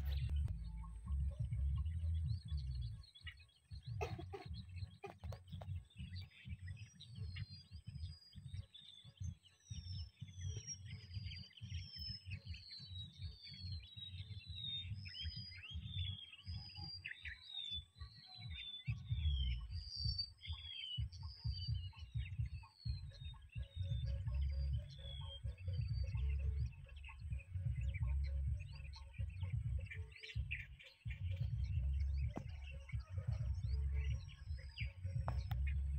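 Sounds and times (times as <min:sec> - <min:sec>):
wind rumble on microphone: 0:00.0 - 0:16.9, 0:18.4 - 0:35.9
birds chirping: 0:00.0 - 0:35.9.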